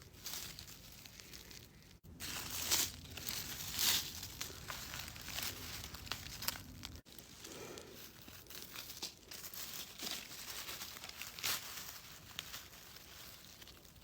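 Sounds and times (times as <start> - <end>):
dry leaves rustling and crinkling: 0.0 - 14.0
twigs snapping: 0.0 - 14.0.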